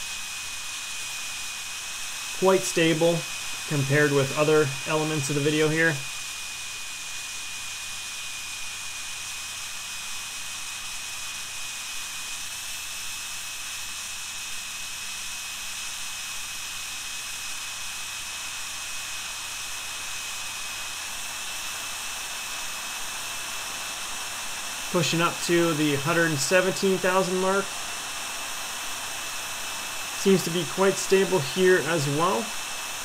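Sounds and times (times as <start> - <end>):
turbine jet engine running: 0.0 - 33.0.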